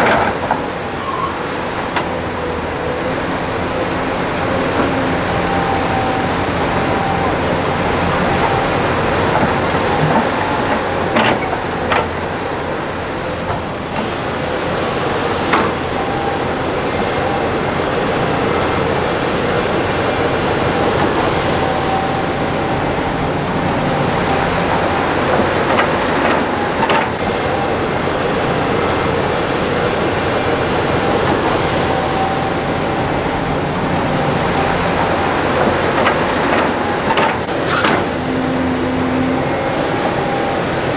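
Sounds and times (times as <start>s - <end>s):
excavator engine and hydraulics: 0.0s - 40.9s.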